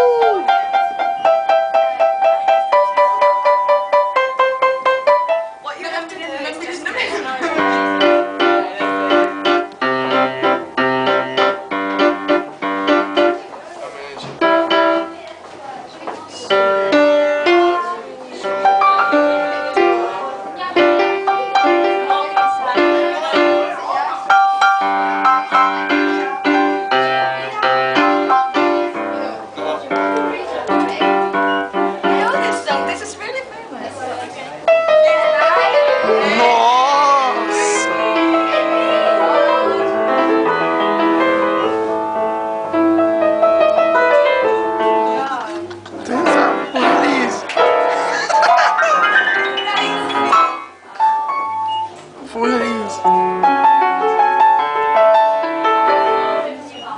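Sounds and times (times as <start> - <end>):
piano notes and chords: 0.0 - 56.9.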